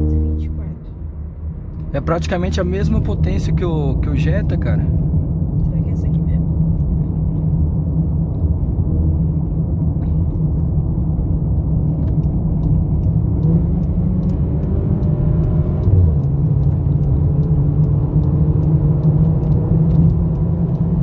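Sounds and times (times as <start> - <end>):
car cabin road and engine rumble: 0.0 - 21.0.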